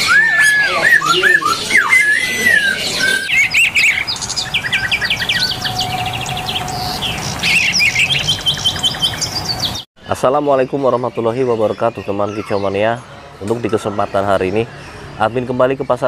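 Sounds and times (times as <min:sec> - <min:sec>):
songbirds singing: 0:00.0 - 0:16.0.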